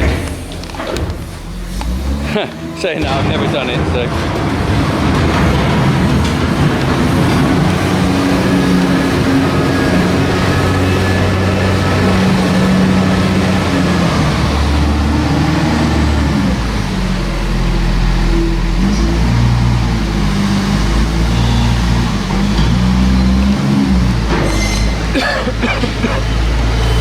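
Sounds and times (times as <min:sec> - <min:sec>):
deep engine rumble: 0:00.0 - 0:27.0
diesel farm machinery working: 0:00.0 - 0:27.0.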